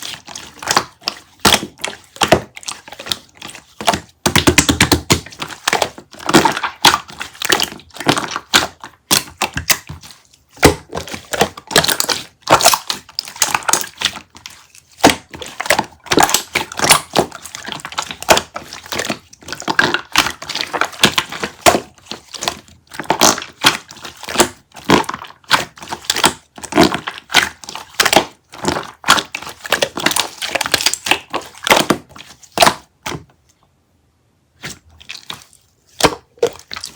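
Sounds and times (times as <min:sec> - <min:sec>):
crunching crackling clicks and taps: 0:00.0 - 0:33.7, 0:34.9 - 0:36.9.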